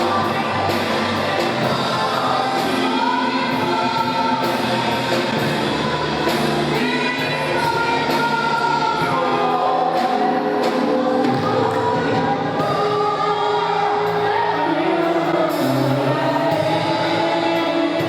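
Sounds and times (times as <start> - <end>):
group singing gospel song: 0.0 - 18.0
live band playing: 0.0 - 18.0.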